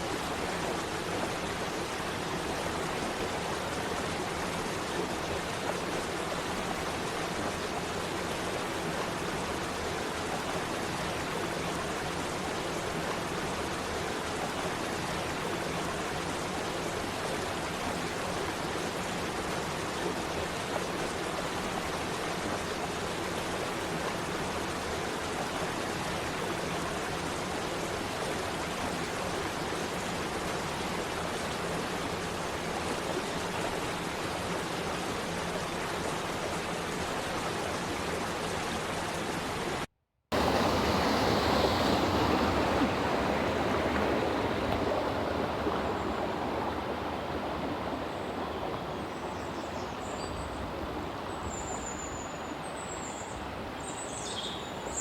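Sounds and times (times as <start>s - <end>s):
water rushing over waterfall: 0.0s - 49.0s.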